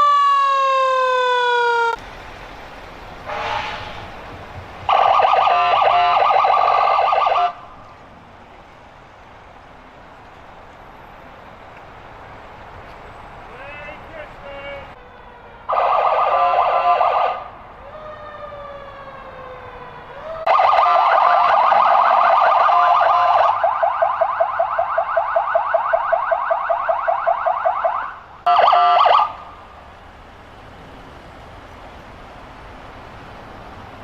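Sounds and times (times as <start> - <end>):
emergency vehicle sirens: 0.0 - 34.0.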